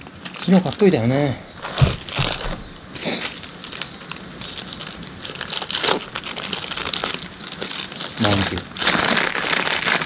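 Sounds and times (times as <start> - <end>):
paper wrapper crinkling: 0.0 - 10.0.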